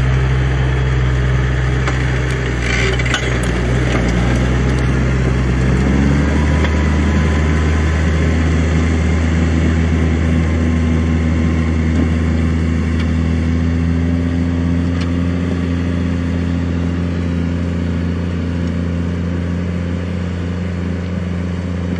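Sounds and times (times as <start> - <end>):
tractor diesel engine under load: 0.0 - 21.9.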